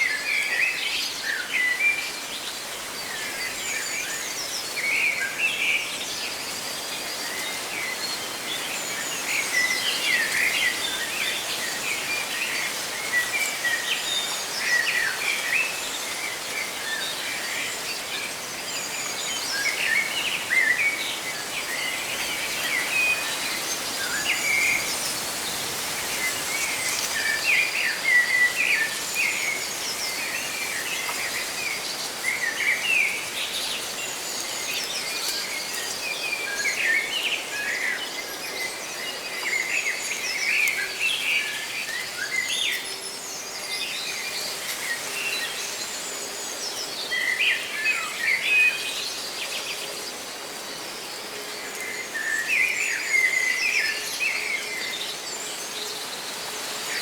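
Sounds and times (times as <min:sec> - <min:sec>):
leaves rustling: 0:00.0 - 0:57.0
songbirds chirping: 0:00.0 - 0:57.0.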